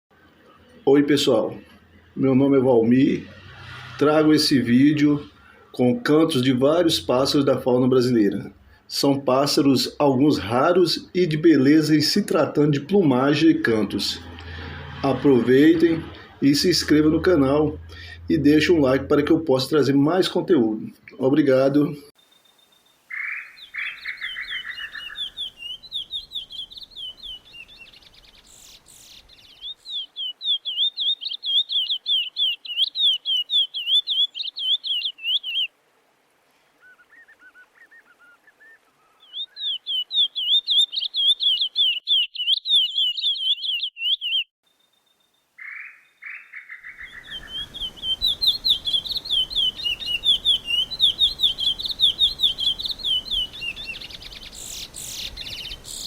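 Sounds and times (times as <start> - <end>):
songbird singing: 0.1 - 35.8, 36.7 - 56.0.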